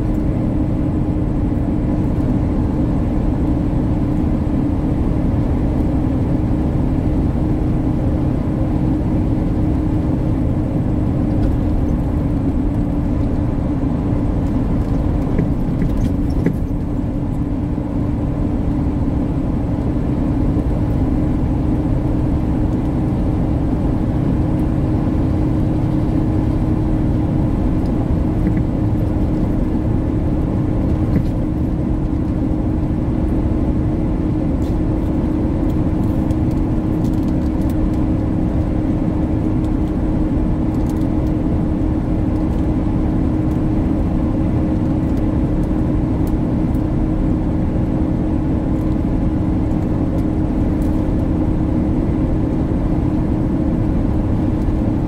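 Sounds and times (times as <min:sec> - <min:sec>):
diesel engine drone: 0:00.0 - 0:55.0
road noise: 0:00.0 - 0:55.0.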